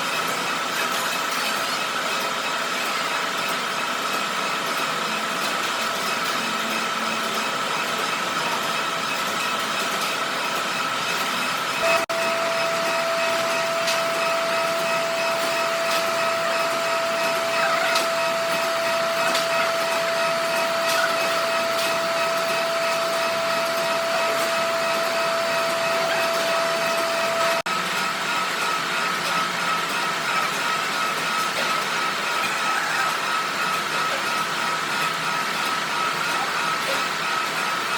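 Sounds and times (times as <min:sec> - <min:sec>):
workshop machine running: 0:00.0 - 0:37.9.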